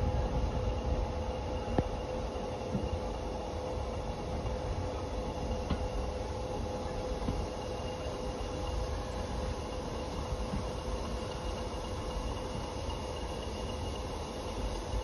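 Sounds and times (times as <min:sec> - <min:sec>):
steady whine: 0:00.0 - 0:15.0.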